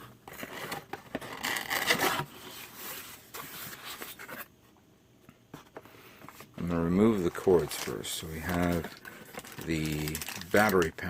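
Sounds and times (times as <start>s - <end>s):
packaging rustling: 0.3s - 4.5s, 6.2s - 11.0s.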